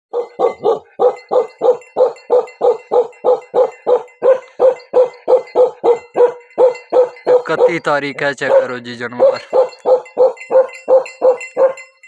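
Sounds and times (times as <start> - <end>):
dog barking: 0.1 - 7.8, 8.4 - 11.9.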